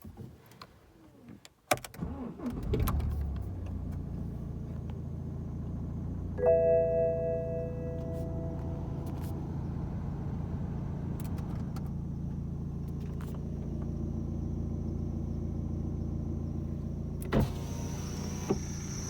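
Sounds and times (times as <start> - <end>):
car engine cranking and idling: 0.1 - 19.0.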